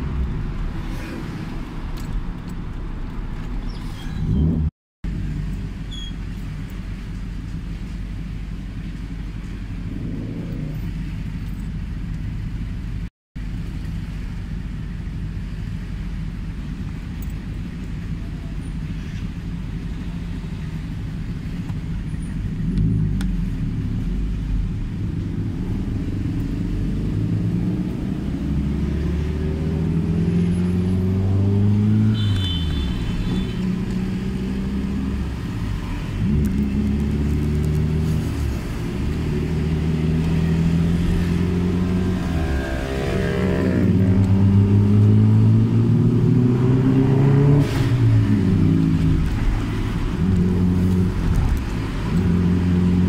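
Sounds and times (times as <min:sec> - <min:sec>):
car engine idling and accelerating: 0:00.0 - 0:53.0.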